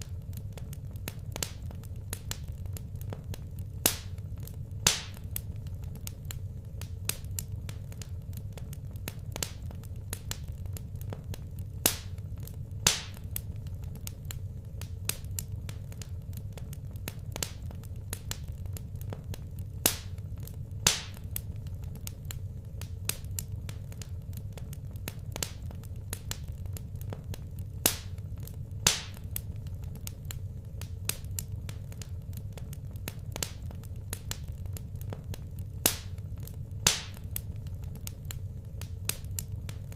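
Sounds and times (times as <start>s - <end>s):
fire popping: 0.0s - 39.9s
low steady rumble: 0.0s - 39.9s
wood fire crackling: 0.0s - 39.9s.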